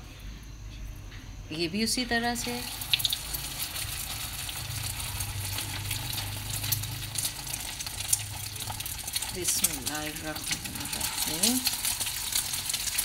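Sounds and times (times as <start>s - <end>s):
food sizzling in hot oil: 2.2s - 13.0s.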